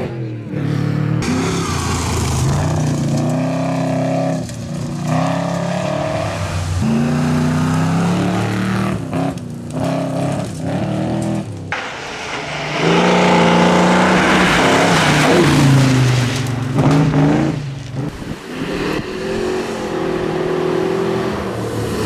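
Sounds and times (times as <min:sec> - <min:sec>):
truck engine accelerating hard: 0:00.0 - 0:22.0.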